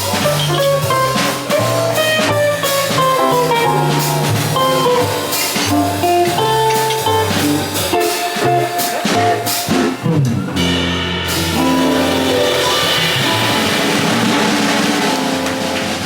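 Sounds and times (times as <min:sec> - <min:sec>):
bass line: 0:00.0 - 0:16.0
drum kit hits and cymbals: 0:00.0 - 0:16.0
jazz band playing: 0:00.0 - 0:16.0.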